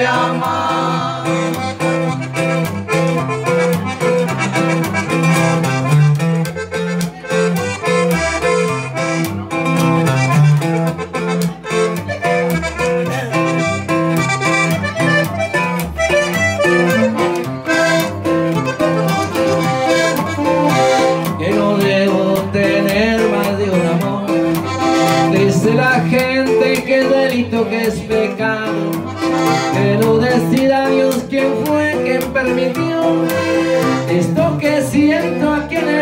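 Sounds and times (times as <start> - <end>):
button accordion melody: 0.0 - 36.0
guitar strumming: 0.0 - 36.0
upright bass line: 0.0 - 36.0.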